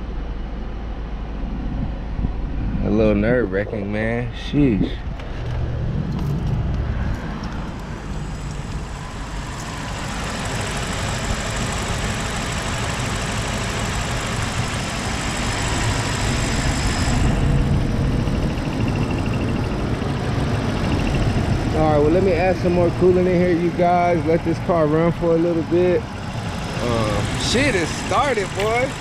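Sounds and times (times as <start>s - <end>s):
car engine idling: 2.8s - 29.0s.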